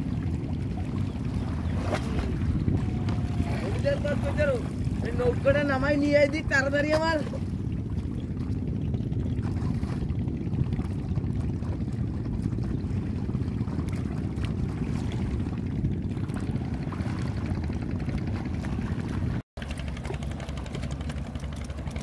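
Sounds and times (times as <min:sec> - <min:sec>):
steady low rumble: 0:00.0 - 0:22.0
water sloshing and trickling: 0:00.0 - 0:22.0.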